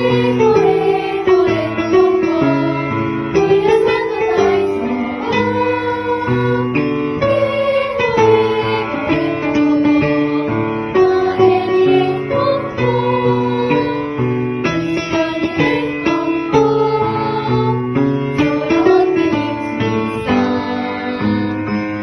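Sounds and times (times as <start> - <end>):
upbeat children's song: 0.0 - 22.0
women singing: 0.0 - 22.0.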